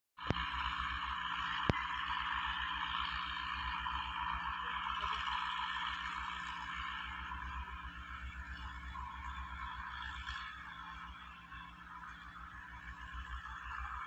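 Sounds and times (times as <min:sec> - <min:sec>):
distant tractor engines pulsing: 0:00.2 - 0:14.0.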